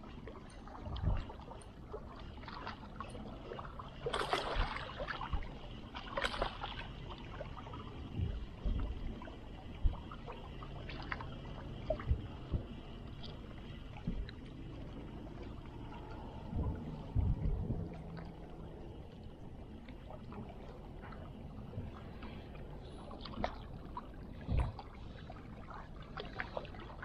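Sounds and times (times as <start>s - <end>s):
waves lapping against rocks: 0.0s - 27.0s.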